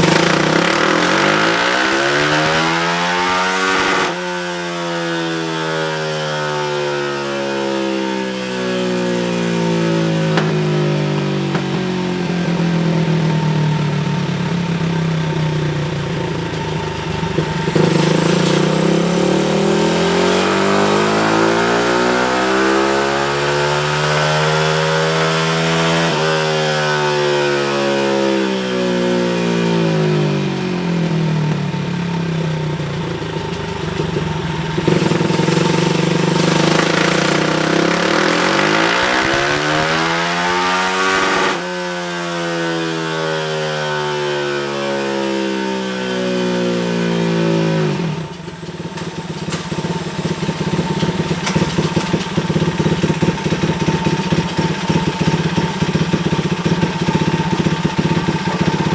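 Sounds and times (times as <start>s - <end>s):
engine running hard: 0.0s - 4.2s, 4.9s - 58.9s.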